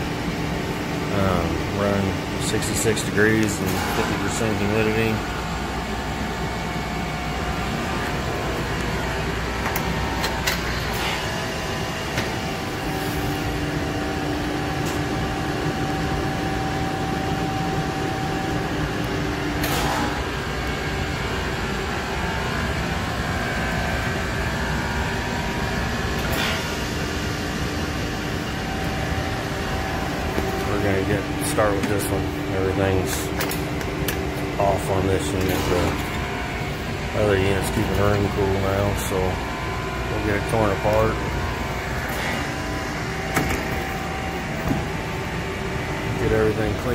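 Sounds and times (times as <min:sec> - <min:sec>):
air conditioner blower rushing: 0:00.0 - 0:46.9.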